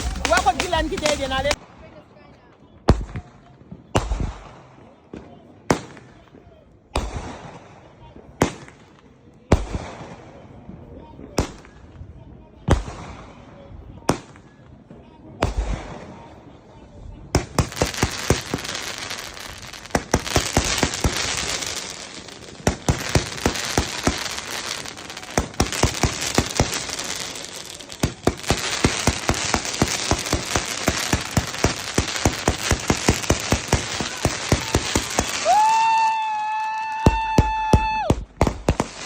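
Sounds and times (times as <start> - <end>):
firecrackers popping: 0.0 - 1.6, 2.4 - 39.0.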